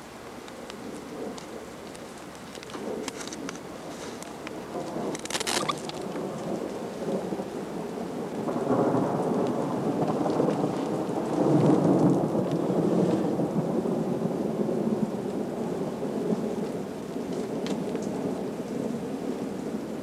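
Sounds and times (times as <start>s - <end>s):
thunder crackle: 0.0s - 20.0s
deep rolling thunder rumble: 2.6s - 20.0s.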